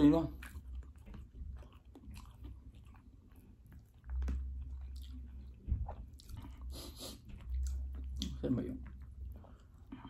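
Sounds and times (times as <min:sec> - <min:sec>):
chewing and mouth sounds: 0:00.0 - 0:10.0.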